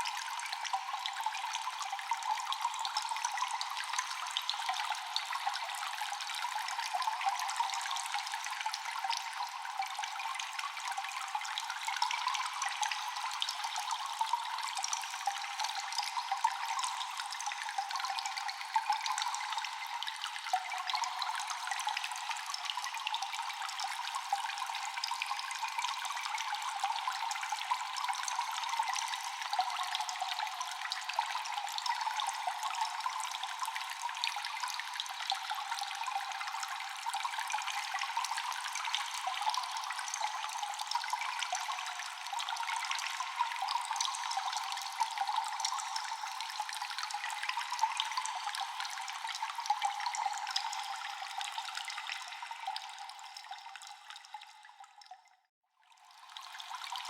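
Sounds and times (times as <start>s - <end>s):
water dripping in a cave: 0.0s - 57.0s.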